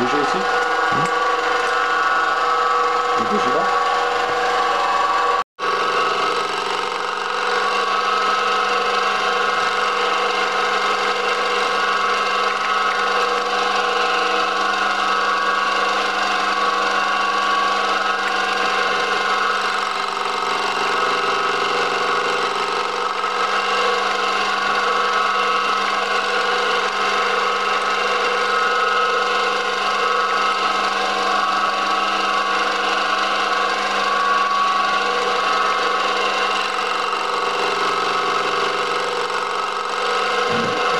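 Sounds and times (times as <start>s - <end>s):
milling machine whining: 0.0s - 40.9s.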